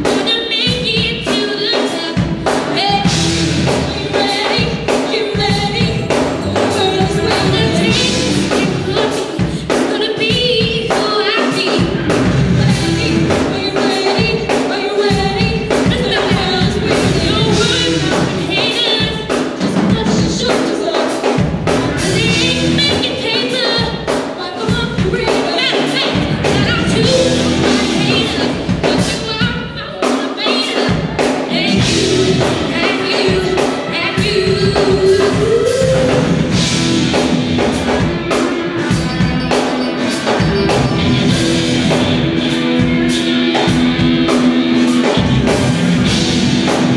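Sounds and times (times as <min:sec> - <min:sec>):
band music with singing: 0:00.0 - 0:46.9
steady drum beat: 0:00.0 - 0:46.9.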